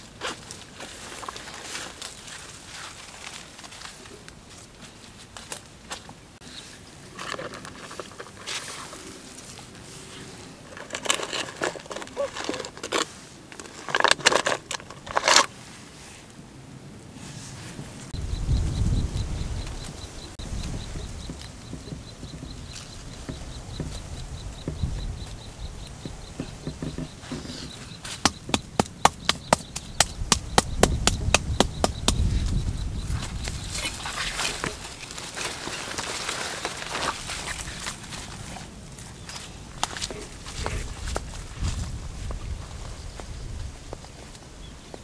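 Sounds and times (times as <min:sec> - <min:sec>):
dry grass and leaves rustling: 0:00.0 - 0:45.0.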